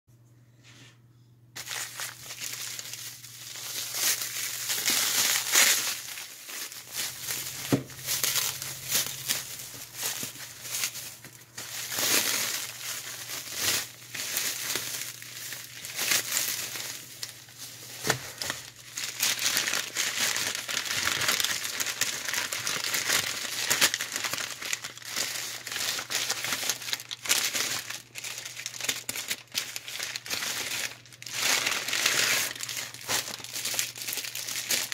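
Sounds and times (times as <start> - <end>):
plastic wrap crinkling: 1.6 - 34.9.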